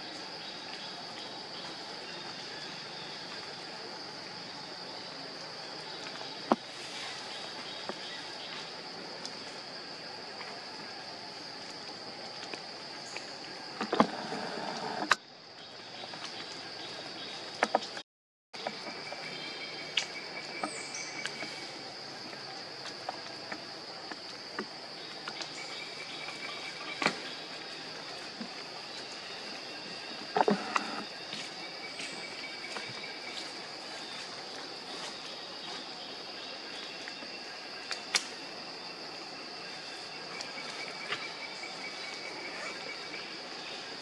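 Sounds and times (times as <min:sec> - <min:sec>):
insects droning: 0:00.0 - 0:18.0, 0:18.6 - 0:44.0.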